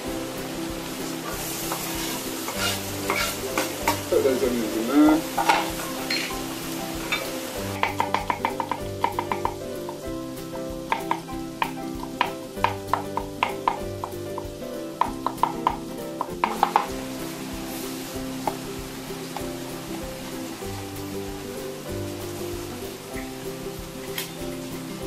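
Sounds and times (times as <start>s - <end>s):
onions sizzling in oil: 0.0s - 25.0s
soft background music: 0.0s - 25.0s.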